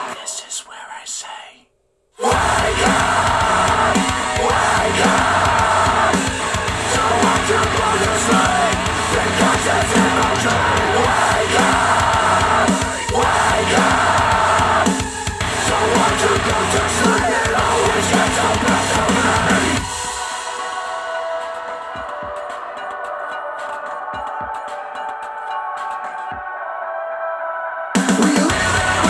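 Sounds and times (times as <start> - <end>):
loud music with singing: 2.2 - 29.0.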